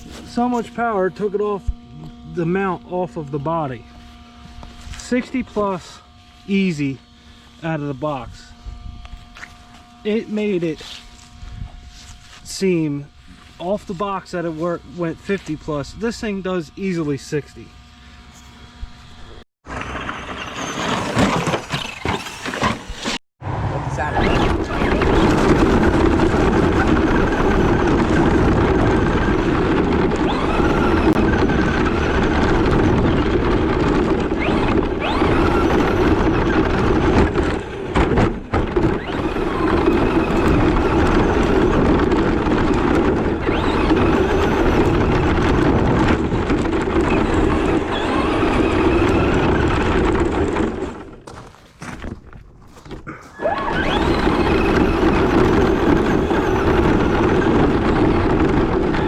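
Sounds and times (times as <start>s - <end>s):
loud vehicle running noise: 0.0s - 21.0s, 23.4s - 51.2s, 53.6s - 59.0s.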